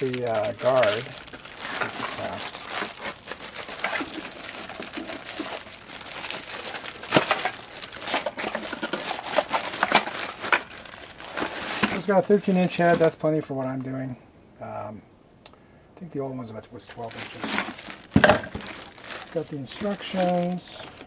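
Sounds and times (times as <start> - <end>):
plastic bag crinkling: 0.0 - 13.1, 16.9 - 21.0.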